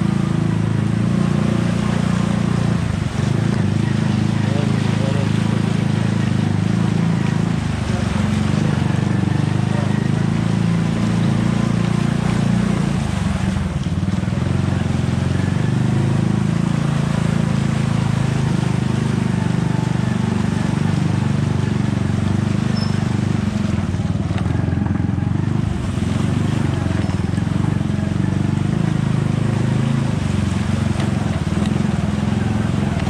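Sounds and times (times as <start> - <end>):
engine-like drone: 0.0 - 33.0.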